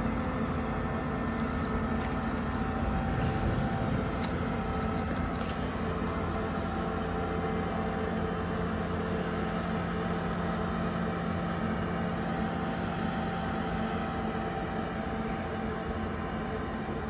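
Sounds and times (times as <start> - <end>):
ferry engine humming: 0.0 - 17.0.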